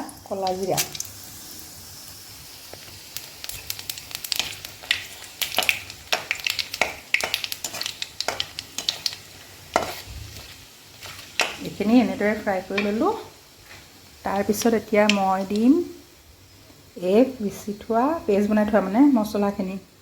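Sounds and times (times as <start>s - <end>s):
spices sizzling in hot oil: 0.0s - 20.0s.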